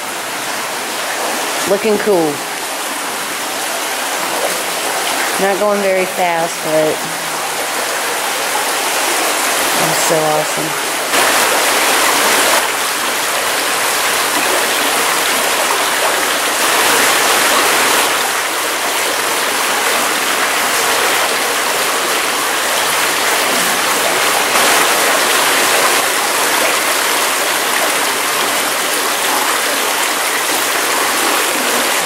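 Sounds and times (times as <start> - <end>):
stream water rushing and splashing: 0.0 - 32.0.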